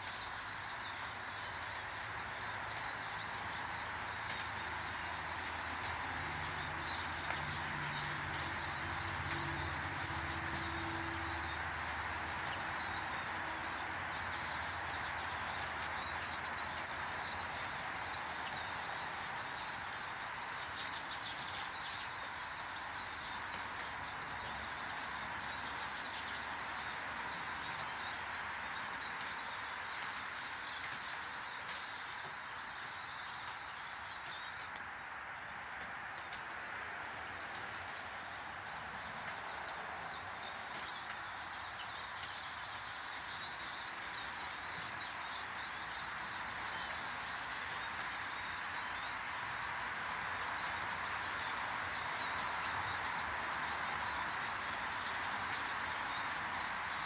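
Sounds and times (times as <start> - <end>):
small birds chirping: 0.0 - 57.0
steady outdoor hiss: 0.0 - 57.0.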